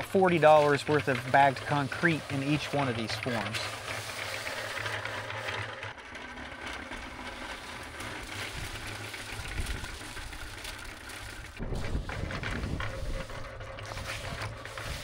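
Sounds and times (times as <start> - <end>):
concrete mixer churning: 0.0 - 15.0.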